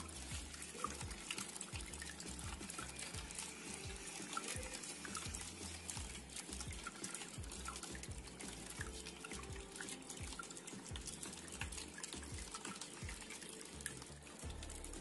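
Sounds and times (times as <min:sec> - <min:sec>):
water dripping: 0:00.0 - 0:15.0
water trickling and splashing: 0:00.0 - 0:15.0.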